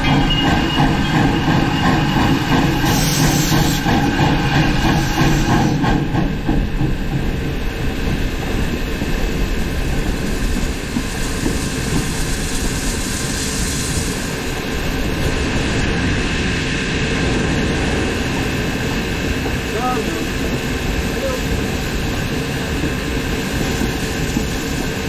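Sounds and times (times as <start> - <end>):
steam locomotive rumbling: 0.0 - 25.0.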